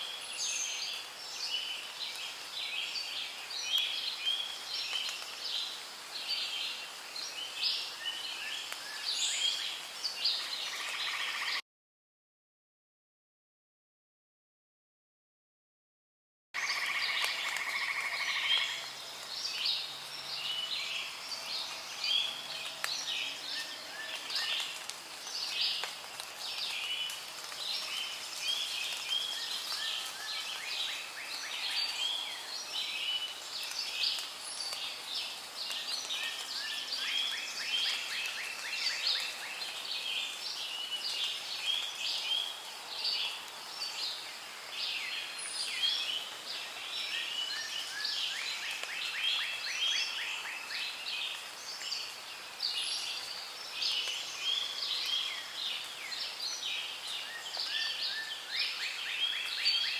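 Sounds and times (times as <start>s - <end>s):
faint steady hiss: 0.0s - 11.4s, 16.6s - 59.9s
birds chirping and warbling: 0.0s - 11.6s, 16.6s - 59.9s.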